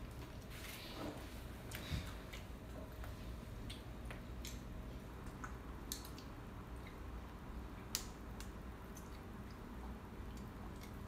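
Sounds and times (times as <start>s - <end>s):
low room hum: 0.0s - 11.0s
children eating clicks and smacks: 1.6s - 11.0s.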